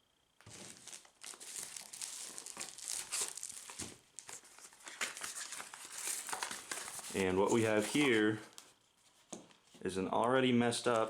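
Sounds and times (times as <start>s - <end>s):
packaging rustling and crinkling: 0.4s - 9.8s.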